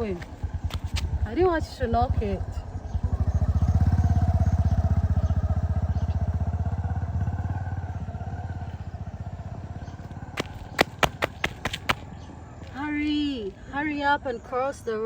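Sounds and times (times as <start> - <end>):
vehicle engine pulsing: 0.0 - 13.5.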